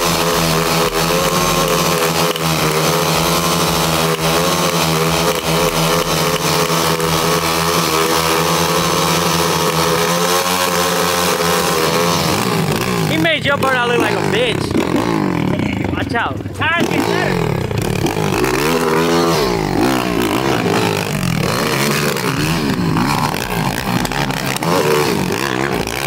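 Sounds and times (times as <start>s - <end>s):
motorbike engines revving high: 0.0s - 26.0s
tyres spinning on asphalt: 0.0s - 26.0s.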